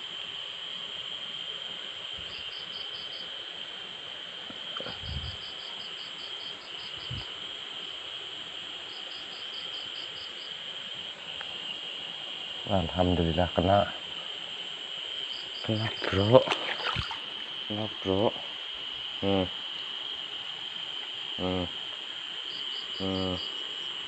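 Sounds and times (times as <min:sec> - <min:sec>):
insect chirping in rapid pulses: 0:00.0 - 0:24.0
high-pitched insect drone: 0:04.5 - 0:24.0.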